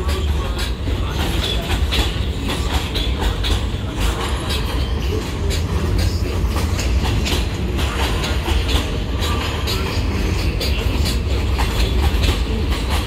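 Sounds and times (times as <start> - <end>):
subway train rumble: 0.0 - 13.0
wheels clacking over rail joints: 0.0 - 13.0.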